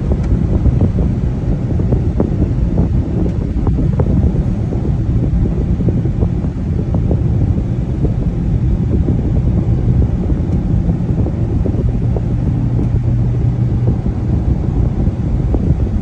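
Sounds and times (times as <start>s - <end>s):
car cruising at highway speed: 0.0s - 16.0s.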